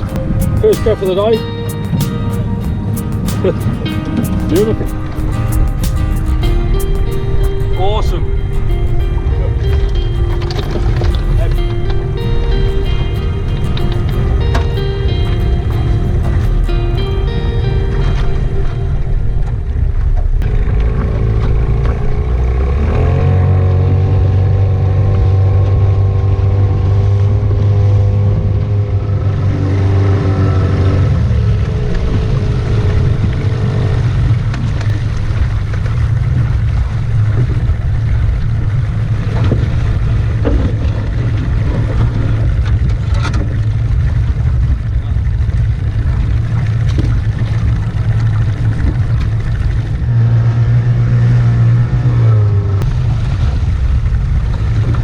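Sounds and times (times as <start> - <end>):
motorboat engine rumbling: 0.0 - 55.0
wind noise: 0.0 - 55.0.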